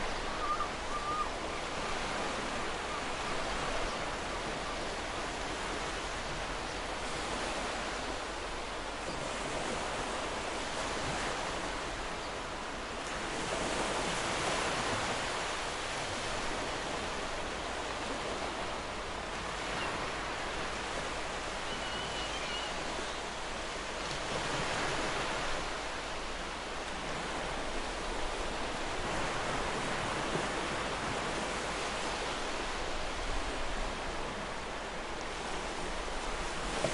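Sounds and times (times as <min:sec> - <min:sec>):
small waves lapping on shore: 0:00.0 - 0:36.9.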